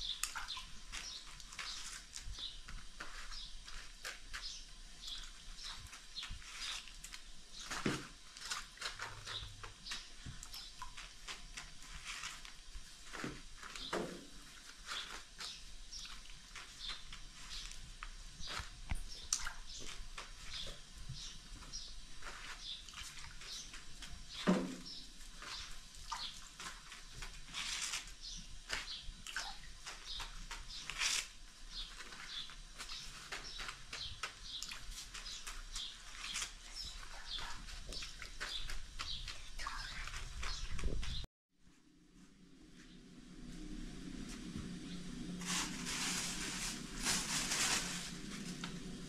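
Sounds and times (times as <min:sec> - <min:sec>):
flatbreads rustling and slapping: 0:00.0 - 0:41.3, 0:43.6 - 0:49.0
small birds chirping: 0:00.0 - 0:41.3.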